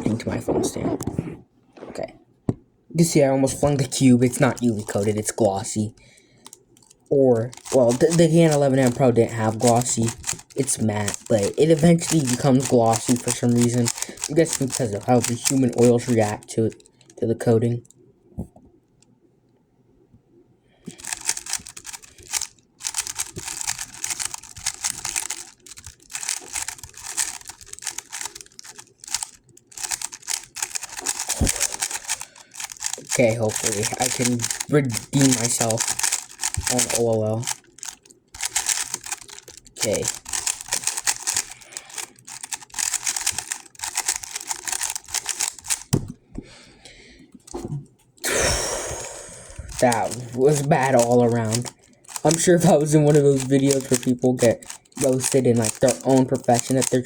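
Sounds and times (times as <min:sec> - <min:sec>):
quiet handling: 0:00.0 - 0:48.2, 0:49.5 - 0:57.0
speedcube clicking turns: 0:03.6 - 0:17.2, 0:20.9 - 0:46.0, 0:49.6 - 0:57.0.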